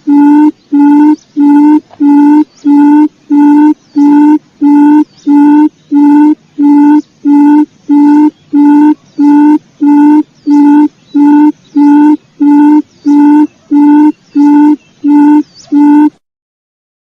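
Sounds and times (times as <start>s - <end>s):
bird chirps: 0.0s - 16.2s
quail hooting call: 0.0s - 16.2s.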